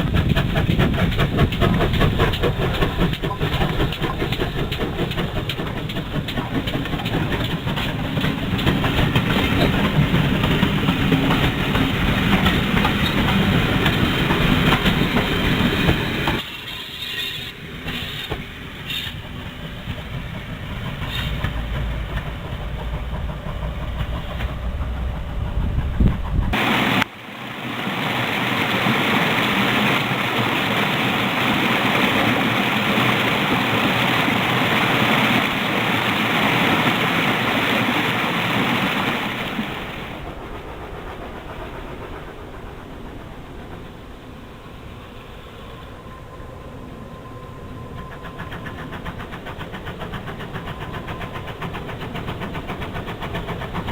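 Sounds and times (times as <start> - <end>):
quiet rail sound: 0.0 - 53.9
steam train running: 0.0 - 53.9.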